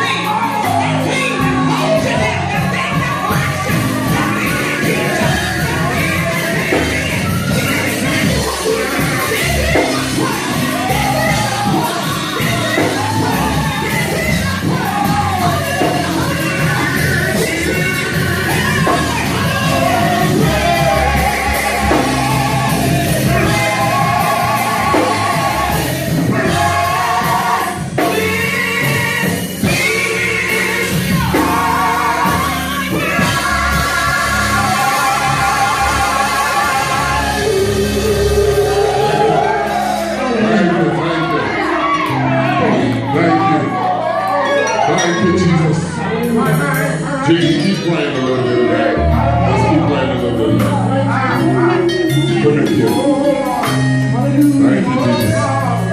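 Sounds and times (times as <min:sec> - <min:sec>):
band accompaniment: 0:00.0 - 0:55.9
gospel singing: 0:00.0 - 0:55.9.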